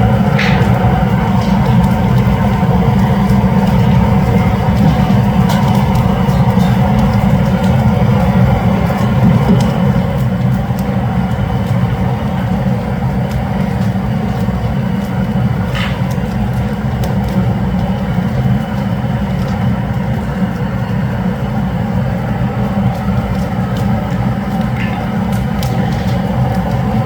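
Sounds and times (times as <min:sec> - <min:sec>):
fire crackles: 0:00.0 - 0:27.0
wood fire rumbling: 0:00.0 - 0:27.0.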